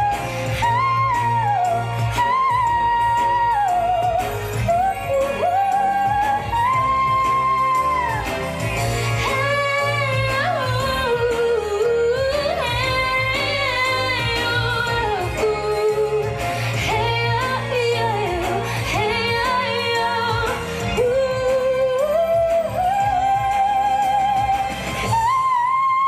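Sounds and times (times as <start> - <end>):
instrumental backing: 0.0 - 26.0
woman singing pop ballad: 0.0 - 26.0.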